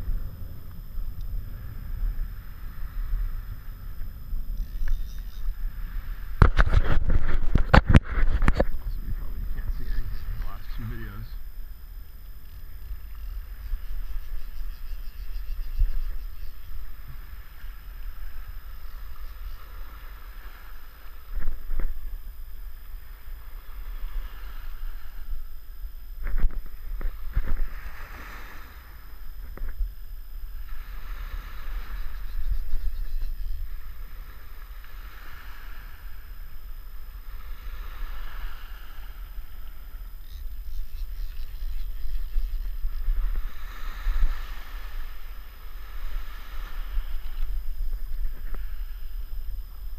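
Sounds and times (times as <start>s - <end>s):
wading water and small surf: 0.0s - 49.9s
wind rumbling on microphone: 0.0s - 49.9s.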